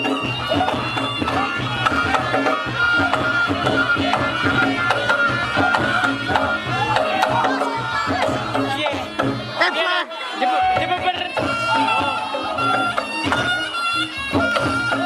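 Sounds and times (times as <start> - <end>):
rapid hand-drum strokes: 0.0 - 9.8, 10.6 - 15.0
wavering shawm melody: 0.0 - 15.0.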